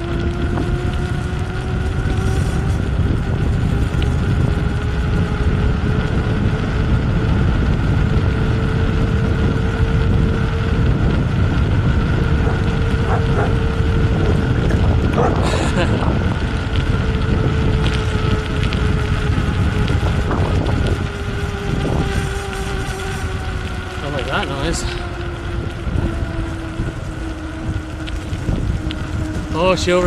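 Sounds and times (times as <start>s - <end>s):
faint rising whine: 0.0s - 30.0s
wind buffeting microphone: 0.0s - 30.0s.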